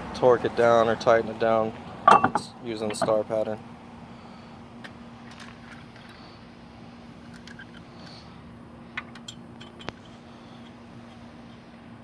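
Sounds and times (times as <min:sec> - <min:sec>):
faint steady hum: 0:01.0 - 0:12.0.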